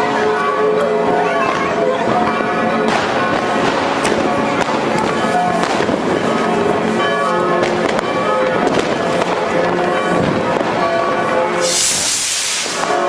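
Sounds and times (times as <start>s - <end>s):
fireworks bangs and cracks: 1.0s - 13.0s.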